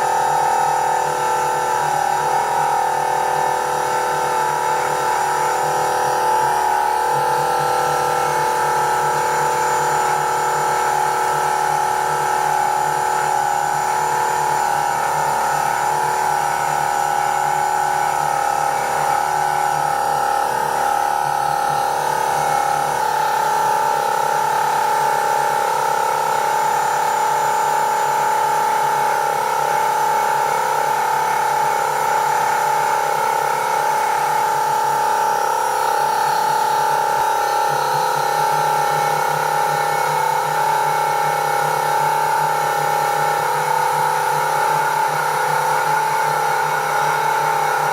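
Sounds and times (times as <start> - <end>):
power saw motor whine: 0.0 - 47.9.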